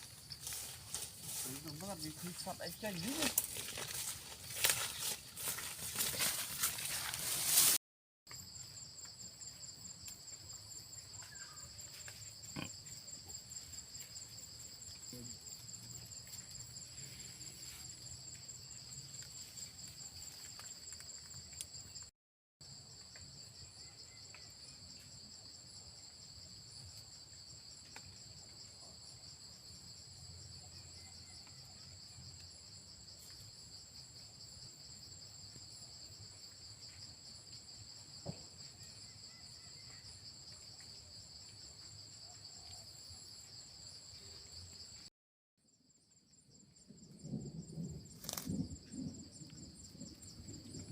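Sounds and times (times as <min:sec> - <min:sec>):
insects trilling: 0:00.0 - 0:07.6, 0:08.3 - 0:22.1, 0:22.7 - 0:45.0, 0:46.2 - 0:50.9.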